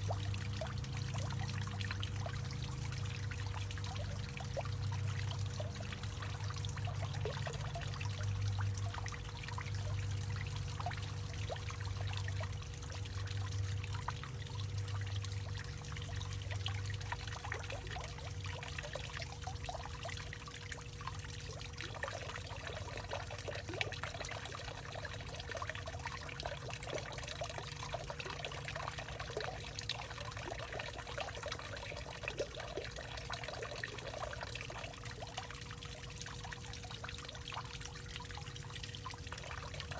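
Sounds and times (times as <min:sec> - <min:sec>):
faint steady hum: 0:00.0 - 0:39.9
small water splashes: 0:00.0 - 0:39.9
water trickling and pouring: 0:00.0 - 0:39.9.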